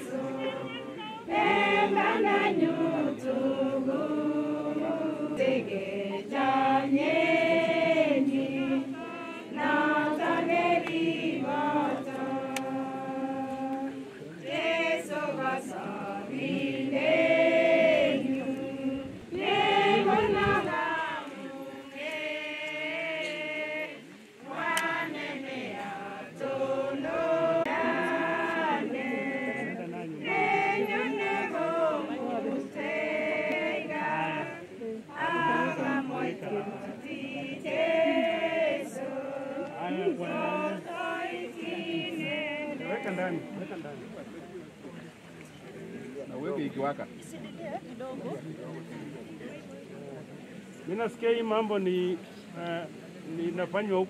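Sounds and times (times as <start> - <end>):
group singing a hymn: 0.0 - 44.4.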